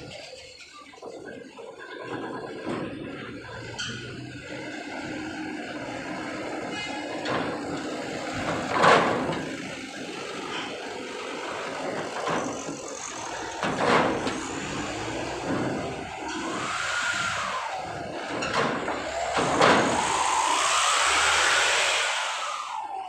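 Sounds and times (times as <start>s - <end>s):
diesel truck engines running: 0.0s - 23.0s.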